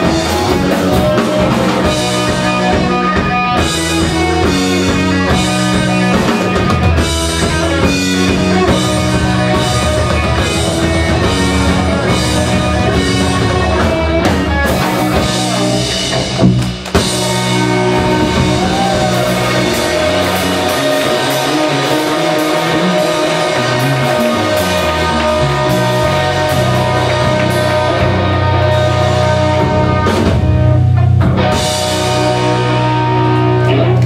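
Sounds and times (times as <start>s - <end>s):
rock band playing: 0.0s - 34.0s.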